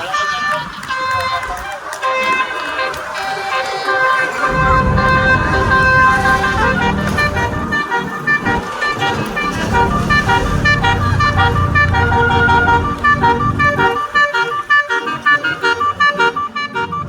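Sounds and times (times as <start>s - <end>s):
air horns playing a tune: 0.0s - 17.0s
bus engine rumble: 0.0s - 17.0s.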